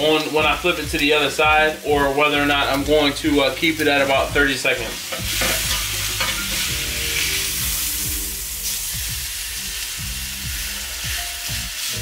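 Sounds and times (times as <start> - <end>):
steak sizzling in grill pan: 0.0 - 12.0.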